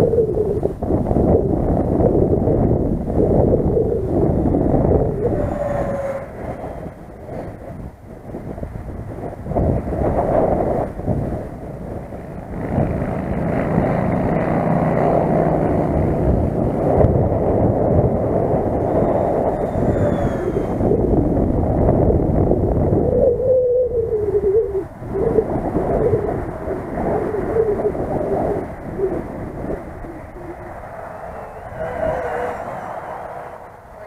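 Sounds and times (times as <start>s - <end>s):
electric ducted fans whining: 0.0s - 34.0s
wind rumble on microphone: 0.0s - 34.0s.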